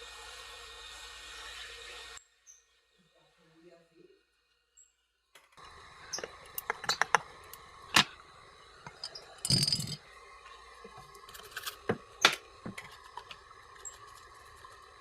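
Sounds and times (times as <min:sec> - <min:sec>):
faint steady whine: 0:02.2 - 0:15.0.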